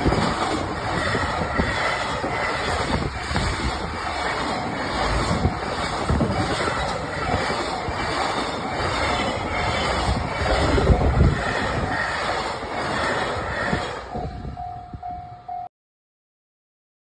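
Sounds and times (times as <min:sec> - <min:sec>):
train wheels rumbling on rails: 0:00.0 - 0:15.6.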